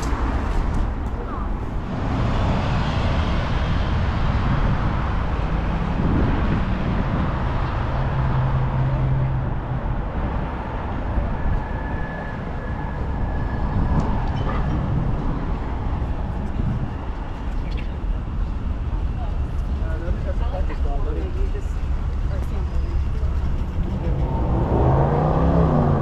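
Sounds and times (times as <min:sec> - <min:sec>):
large engine humming: 0:00.0 - 0:26.0
street traffic rumble: 0:00.0 - 0:26.0.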